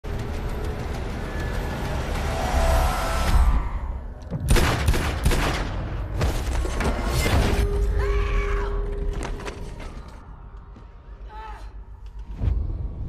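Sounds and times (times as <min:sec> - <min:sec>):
dramatic music: 0:00.0 - 0:10.9.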